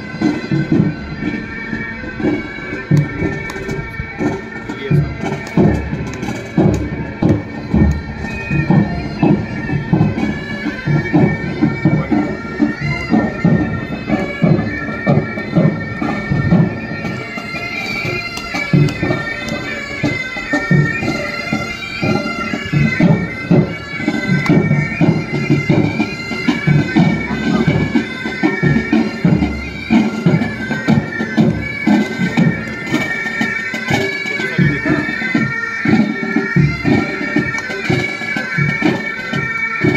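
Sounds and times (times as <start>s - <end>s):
bagpipes playing melody: 0.0s - 39.9s
side drums and bass drum beat: 2.2s - 17.3s, 18.1s - 39.9s.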